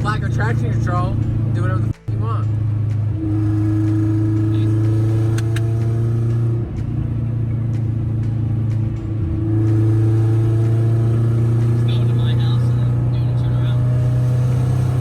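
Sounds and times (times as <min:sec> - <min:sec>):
car engine droning while driving: 0:00.0 - 0:15.0.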